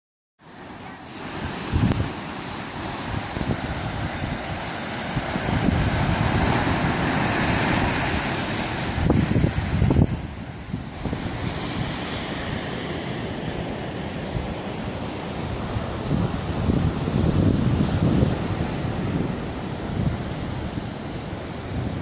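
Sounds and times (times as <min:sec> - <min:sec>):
surf breaking on rocky shore: 0:00.4 - 0:22.0
wind buffeting microphone: 0:01.2 - 0:22.0.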